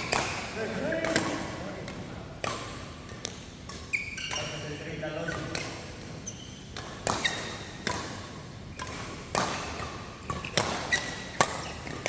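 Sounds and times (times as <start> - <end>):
rackets hitting shuttlecock: 0.0 - 4.6, 5.3 - 12.0.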